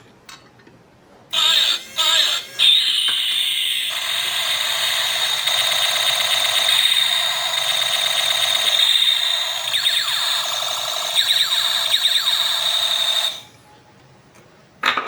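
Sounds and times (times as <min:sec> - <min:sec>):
electronic chirping: 0:01.4 - 0:13.5
small electric motor whirring: 0:01.4 - 0:13.5.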